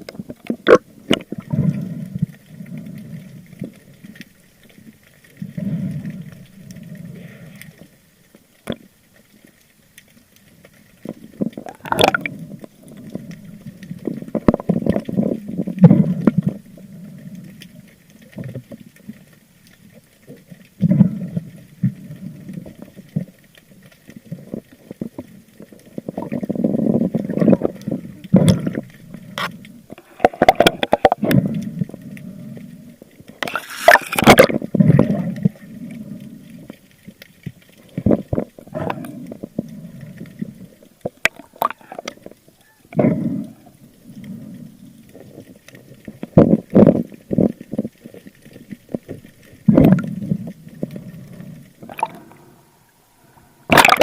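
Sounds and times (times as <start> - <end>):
underwater gurgling water: 0.0 - 54.0.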